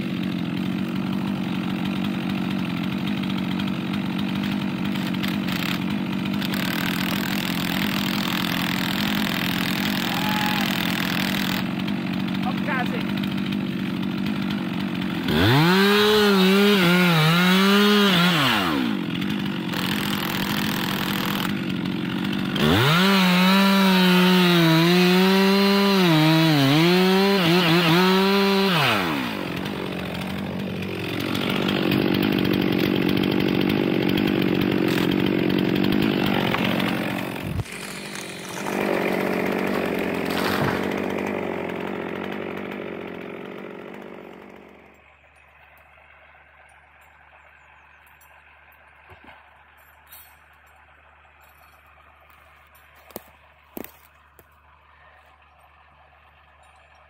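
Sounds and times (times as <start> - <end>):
chainsaw revving and cutting: 0.0 - 57.0.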